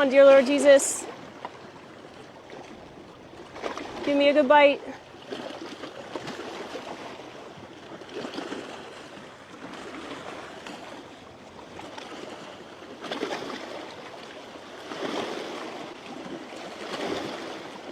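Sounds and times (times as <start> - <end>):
waves washing against shore: 0.0 - 17.9.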